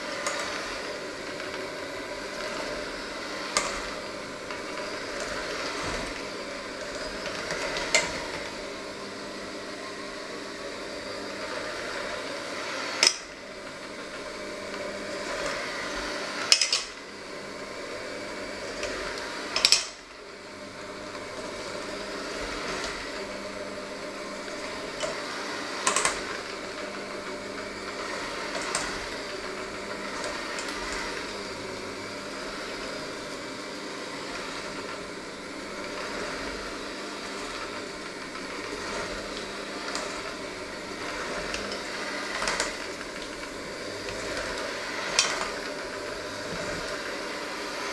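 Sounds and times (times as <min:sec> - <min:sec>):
electric hand mixer running: 0:00.0 - 0:47.9.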